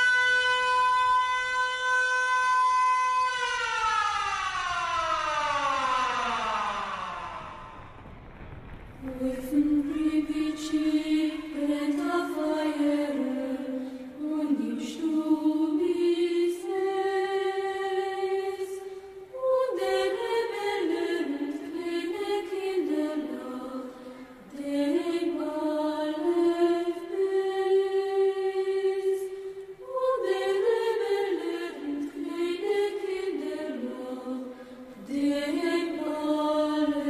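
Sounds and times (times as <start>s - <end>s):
singing in long held notes: 0.0s - 7.9s, 9.0s - 37.0s.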